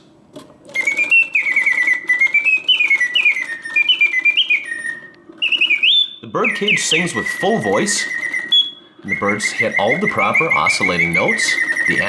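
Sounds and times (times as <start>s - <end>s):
clockwork mechanism whirring: 0.6s - 12.0s
mechanical bird whistle warbling: 0.7s - 12.0s.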